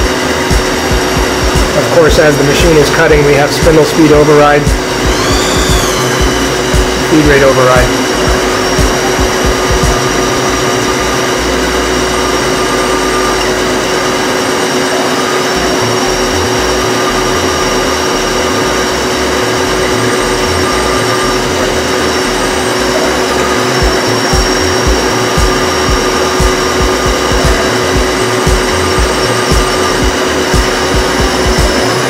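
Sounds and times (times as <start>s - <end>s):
milling machine spindle whine: 0.0s - 32.0s.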